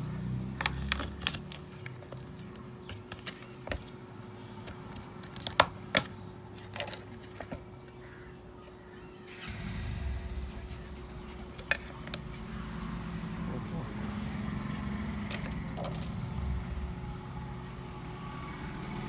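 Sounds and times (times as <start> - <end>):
faint steady hum: 2.4 - 19.0.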